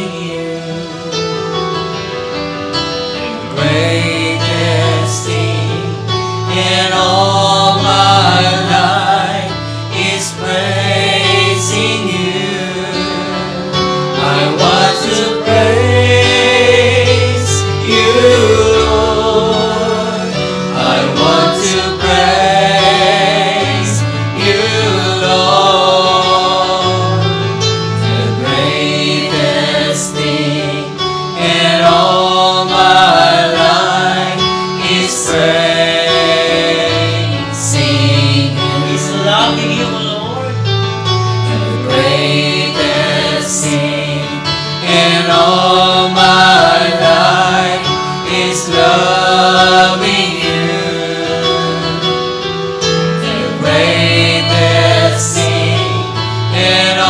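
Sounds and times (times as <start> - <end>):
vocalists singing worship song: 0.0 - 2.4, 3.2 - 57.0.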